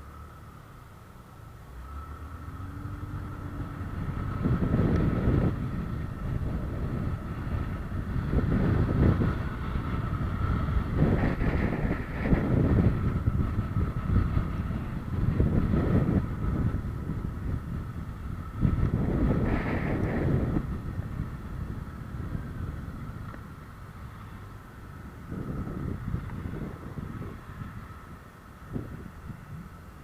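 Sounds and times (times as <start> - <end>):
wind buffeting microphone: 2.4 - 30.0.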